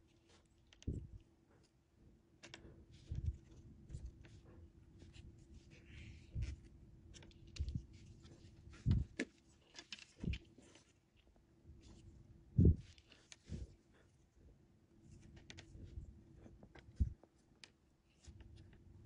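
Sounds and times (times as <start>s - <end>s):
faint steady hum: 0.0s - 19.0s
fingers handling fishing line: 2.4s - 14.0s, 15.0s - 18.9s.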